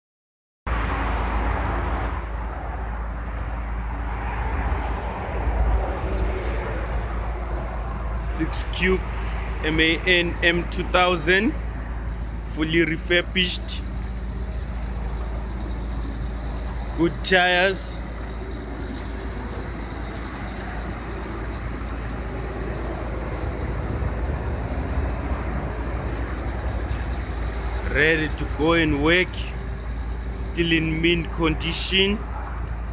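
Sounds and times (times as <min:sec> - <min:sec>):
diesel engine idling: 0:00.7 - 0:32.9.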